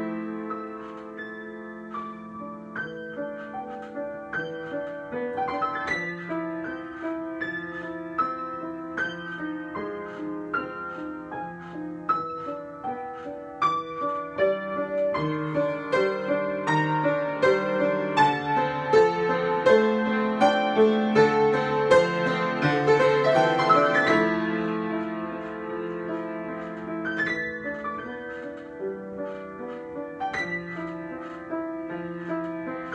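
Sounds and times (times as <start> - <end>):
solo piano: 0.0 - 32.9.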